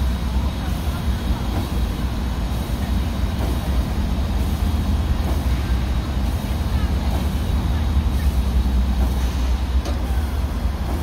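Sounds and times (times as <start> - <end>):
steam hissing: 0.0 - 11.0
steam locomotive low rumble: 0.0 - 11.0.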